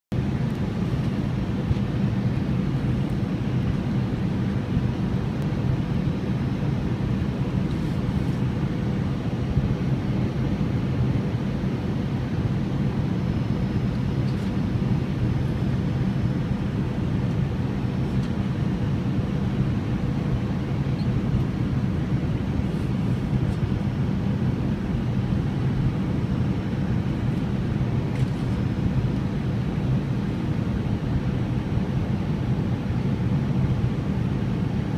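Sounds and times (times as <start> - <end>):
airplane cabin engine drone: 0.1 - 34.9.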